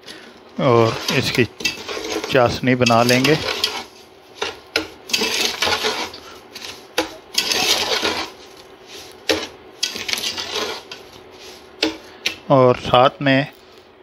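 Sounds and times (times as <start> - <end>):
metal spatula scraping pot: 0.7 - 12.5.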